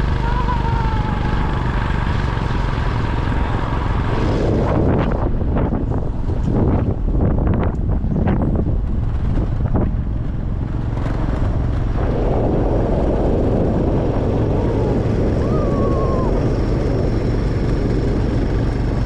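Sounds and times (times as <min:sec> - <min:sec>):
car engine and road rumble: 0:00.0 - 0:19.0
wind noise: 0:00.0 - 0:19.0.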